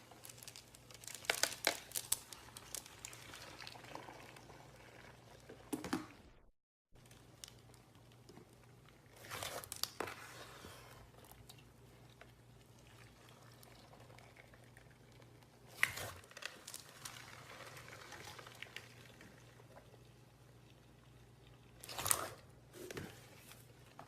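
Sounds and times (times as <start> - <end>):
slime crackling and popping: 0.0 - 5.2, 7.0 - 22.5.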